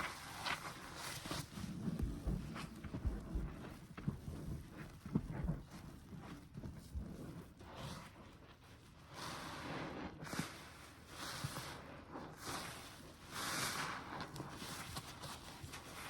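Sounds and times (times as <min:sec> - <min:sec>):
wet sponge squeezed by hand: 0:00.0 - 0:16.0.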